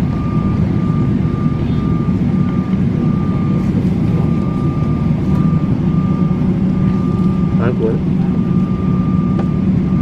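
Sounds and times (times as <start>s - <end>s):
jet cabin rumble: 0.0s - 10.0s
thin steady whine: 0.0s - 10.0s.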